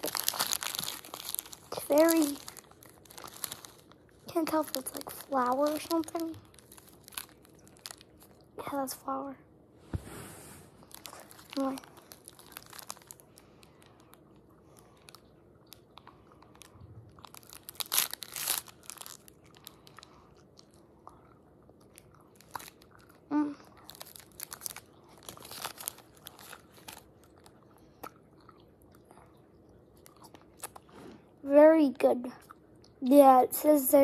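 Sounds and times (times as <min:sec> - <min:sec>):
child chewing gum: 0:00.0 - 0:08.6, 0:10.9 - 0:31.4, 0:32.3 - 0:33.0.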